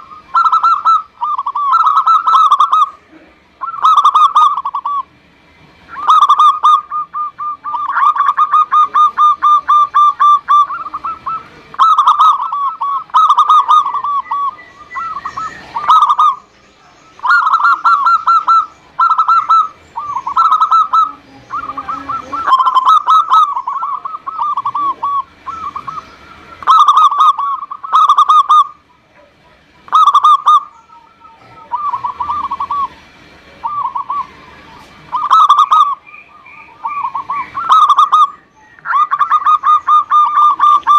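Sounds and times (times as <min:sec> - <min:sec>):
dove cooing: 0:00.0 - 0:05.2, 0:05.9 - 0:40.9.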